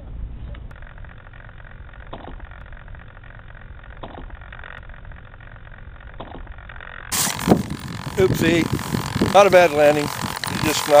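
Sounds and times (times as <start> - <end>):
low hum: 0.0 - 11.0
steady rushing noise: 0.7 - 11.0.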